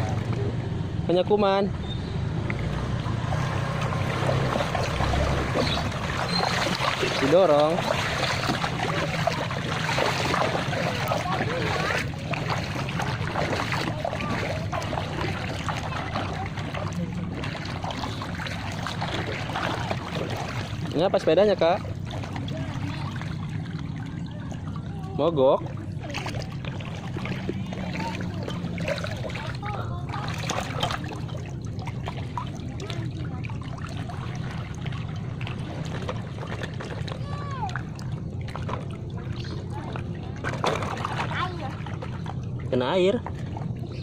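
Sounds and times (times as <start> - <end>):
steady low hum: 0.0 - 44.0
water sloshing and splashing: 0.0 - 44.0
steady low rumble: 2.3 - 44.0.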